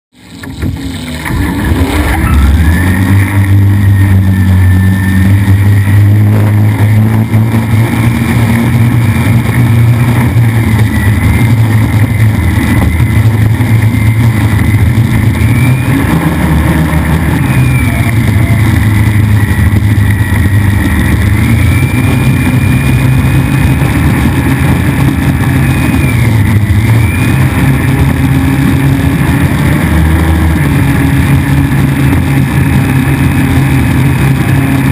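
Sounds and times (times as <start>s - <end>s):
boat engine running hard: 0.1s - 34.9s.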